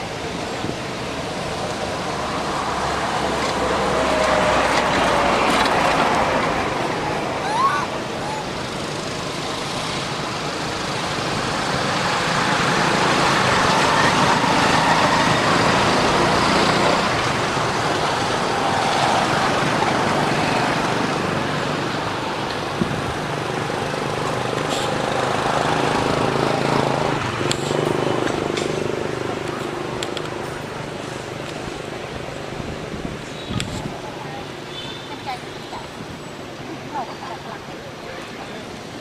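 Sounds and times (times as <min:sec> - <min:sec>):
vehicle passing: 0:00.0 - 0:39.0.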